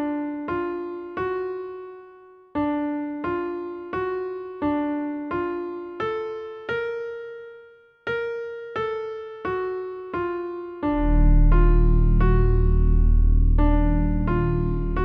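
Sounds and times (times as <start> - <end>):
slow electric piano melody: 0.0 - 15.0.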